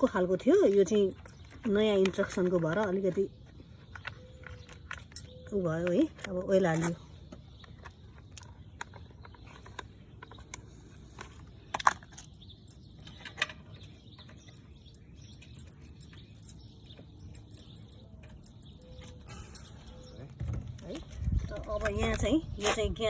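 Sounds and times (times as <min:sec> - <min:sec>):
clicks and knocks of parts handled: 0:00.7 - 0:22.3.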